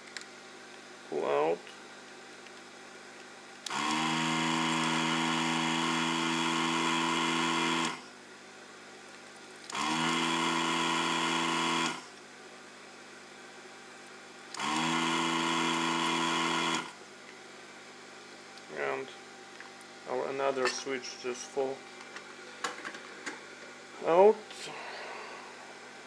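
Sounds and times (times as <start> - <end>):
desoldering pump humming: 0.0 - 26.0.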